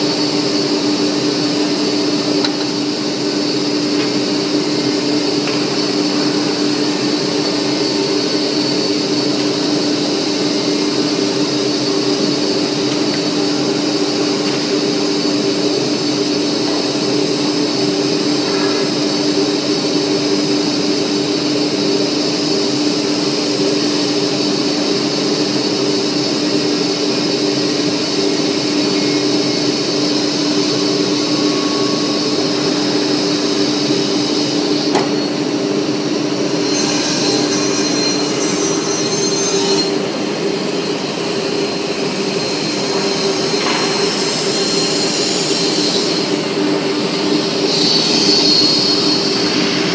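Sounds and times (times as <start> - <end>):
panel saw humming and whining: 0.0 - 49.9.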